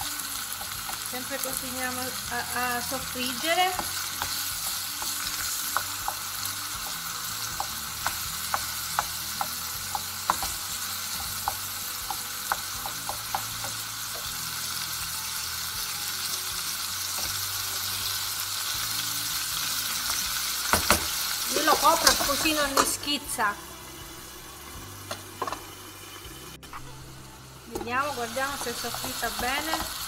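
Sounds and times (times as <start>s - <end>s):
meat and onions sizzling in oil: 0.0s - 30.0s.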